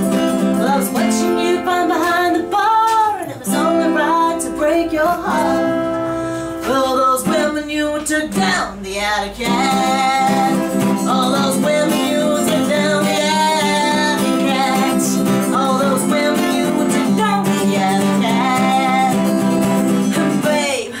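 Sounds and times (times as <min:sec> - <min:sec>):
acoustic guitar strumming: 0:00.0 - 0:21.0
woman singing folk song: 0:00.0 - 0:21.0.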